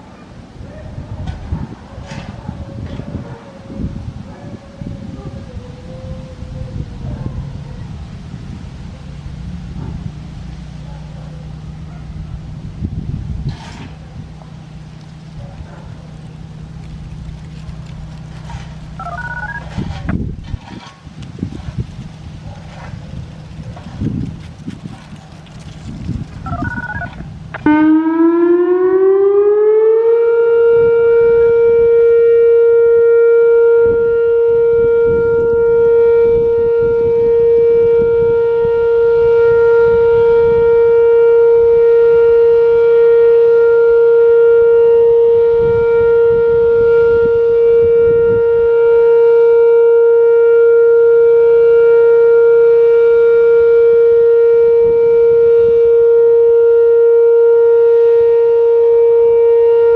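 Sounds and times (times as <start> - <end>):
outdoor warning siren: 0.0 - 20.2, 22.7 - 59.9.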